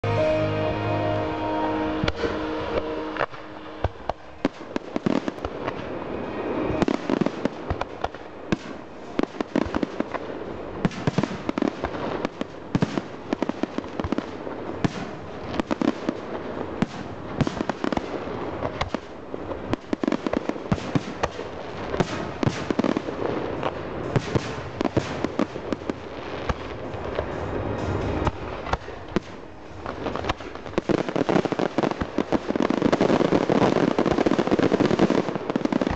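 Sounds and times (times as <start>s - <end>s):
fireworks crackling: 0.0s - 35.9s
fireworks bursting: 1.4s - 35.9s.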